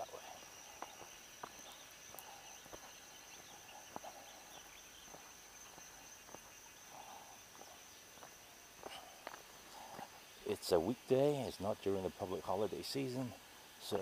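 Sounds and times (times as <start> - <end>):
high-pitched insect drone: 0.0 - 11.6
faint chirps: 0.0 - 14.0.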